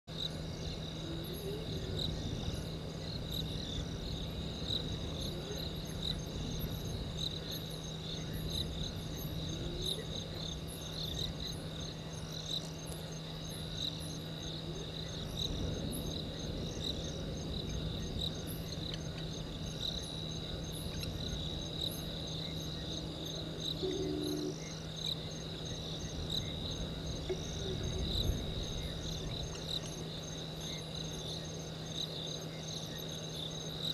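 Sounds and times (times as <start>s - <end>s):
crickets trilling: 0.1s - 33.9s
steady low hum: 0.1s - 33.9s.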